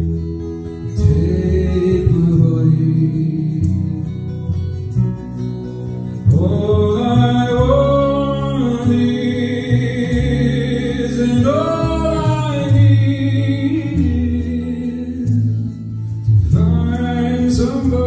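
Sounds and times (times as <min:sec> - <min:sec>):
acoustic guitar: 0:00.0 - 0:18.0
man singing into a microphone: 0:00.7 - 0:04.4, 0:06.2 - 0:18.0.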